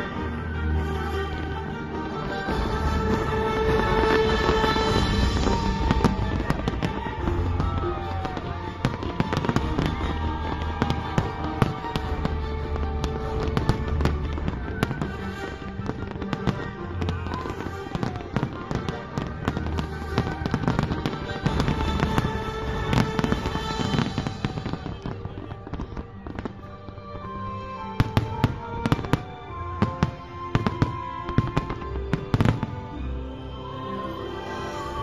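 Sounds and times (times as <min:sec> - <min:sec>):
fireworks bangs and crackles: 0:00.0 - 0:33.5
music playing: 0:00.0 - 0:35.0.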